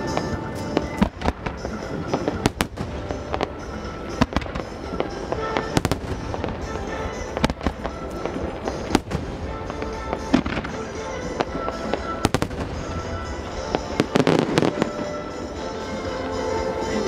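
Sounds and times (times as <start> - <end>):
fireworks bangs and crackle: 0.0 - 17.0
music playing: 0.0 - 17.0.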